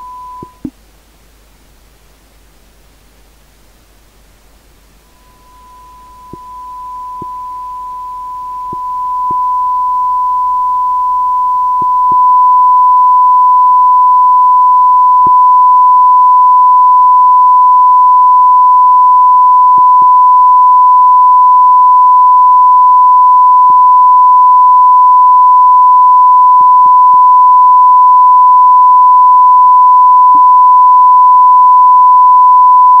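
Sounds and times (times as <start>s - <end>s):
steady sine tone: 0.0s - 0.7s, 5.0s - 33.0s.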